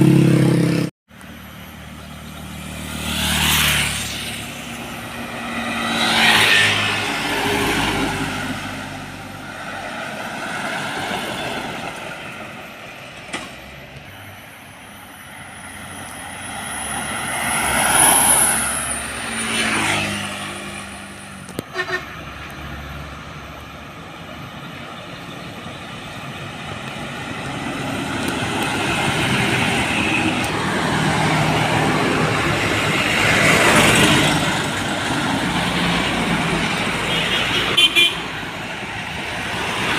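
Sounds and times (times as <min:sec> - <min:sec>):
trucks passing close by: 0:00.0 - 0:39.9.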